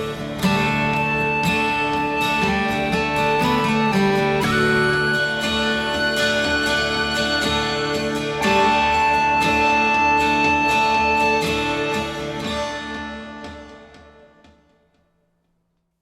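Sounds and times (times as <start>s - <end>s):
guitar music over loudspeakers: 0.0s - 14.8s.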